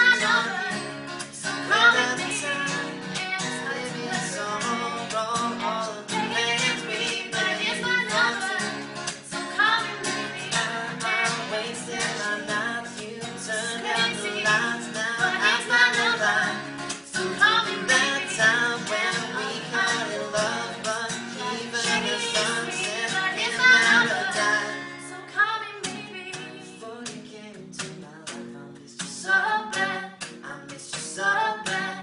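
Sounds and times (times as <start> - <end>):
person singing: 0.0 - 32.0
plucked guitar: 0.0 - 32.0.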